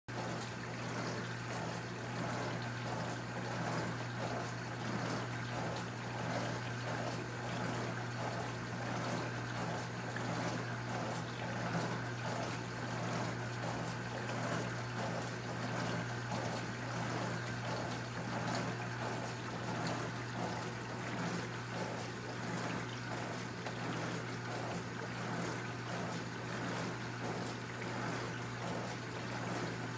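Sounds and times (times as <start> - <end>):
dishwasher pump motor humming: 0.1 - 29.9.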